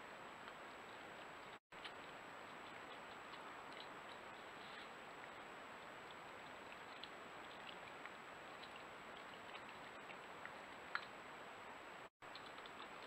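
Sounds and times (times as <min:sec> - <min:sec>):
badger chewing and licking: 0:00.4 - 0:11.5, 0:12.2 - 0:13.0.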